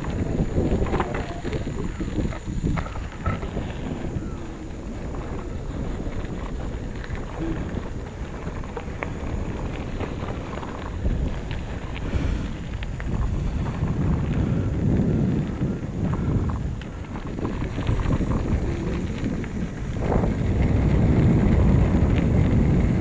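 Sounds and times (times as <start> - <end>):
bicycle rattling over bumps: 0.0 - 23.0
wind noise on microphone: 0.0 - 23.0.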